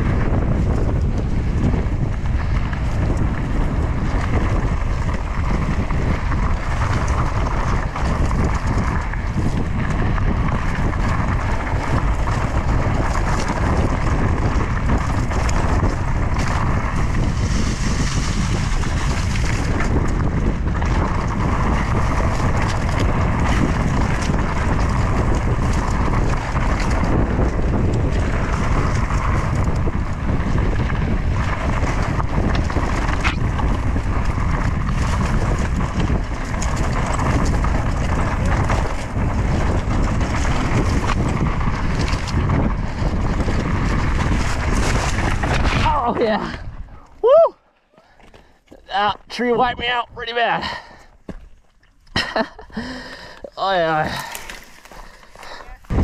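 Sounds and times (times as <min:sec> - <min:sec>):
bike rattling and knocking: 0:00.0 - 0:47.3, 0:50.6 - 0:56.0
tyres rumbling on dirt: 0:00.0 - 0:56.0
wind buffeting microphone: 0:00.0 - 0:56.0.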